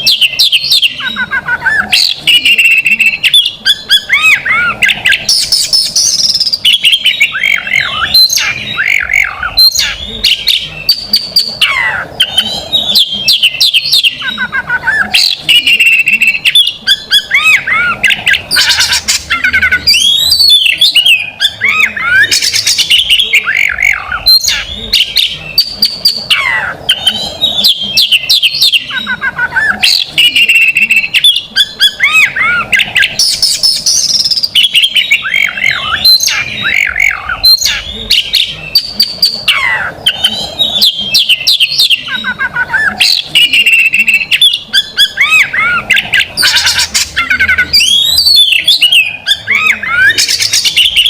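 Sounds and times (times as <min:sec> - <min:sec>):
magpie-robin singing: 0:00.0 - 0:51.0.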